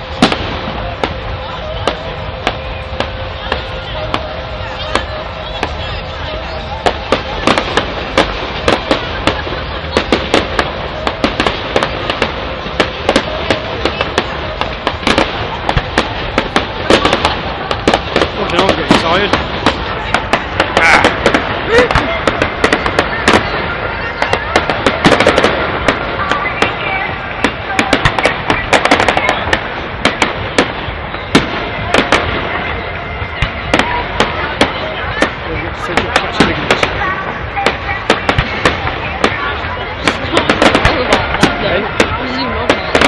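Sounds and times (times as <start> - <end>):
fireworks bangs and cracks: 0.0 - 43.0
steady noisy background: 0.0 - 43.0.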